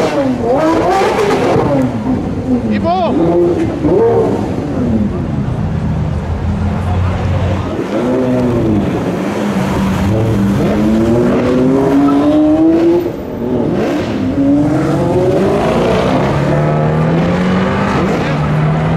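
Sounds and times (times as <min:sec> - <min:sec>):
sports car engine accelerating: 0:00.0 - 0:18.9.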